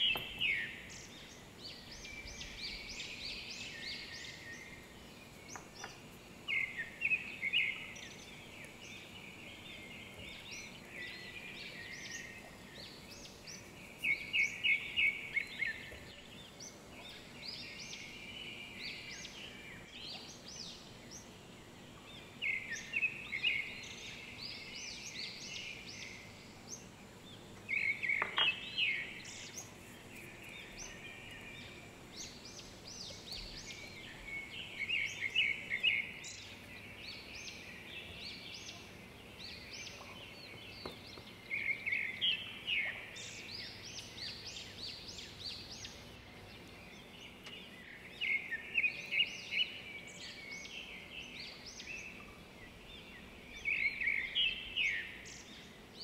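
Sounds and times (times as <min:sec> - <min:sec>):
birds chirping: 0:00.0 - 0:56.0
faint steady hiss: 0:00.0 - 0:56.0.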